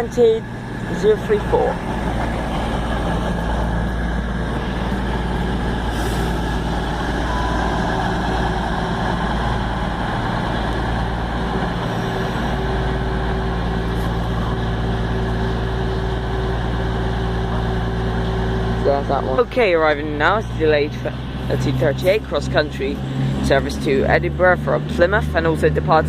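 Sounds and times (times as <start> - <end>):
diesel train engines idling: 0.0 - 26.0.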